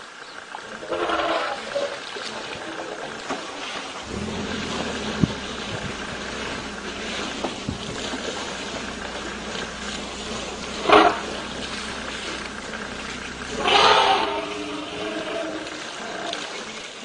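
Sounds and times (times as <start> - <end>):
wind: 0.0 - 17.0
hiss of water: 0.6 - 17.0
elephants calling: 0.7 - 17.0.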